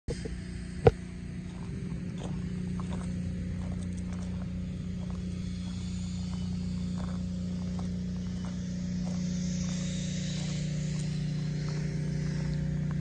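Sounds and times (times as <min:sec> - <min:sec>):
pickup engine idling: 0:00.9 - 0:13.0.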